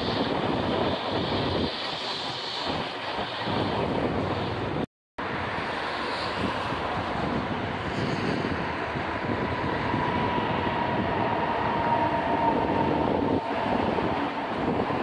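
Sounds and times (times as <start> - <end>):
distant city traffic: 0.0 - 15.0
passenger train rolling past: 0.0 - 15.0.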